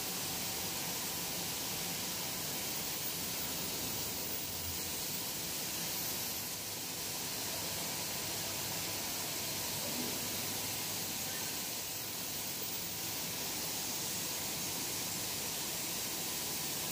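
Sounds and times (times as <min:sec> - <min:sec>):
machinery hissing: 0:00.0 - 0:16.9.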